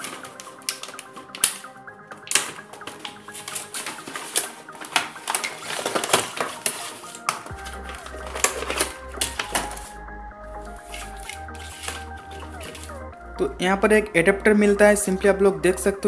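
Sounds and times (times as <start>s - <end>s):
plastic packaging crinkling: 0.0s - 13.2s
background music with bass beat: 0.0s - 16.0s.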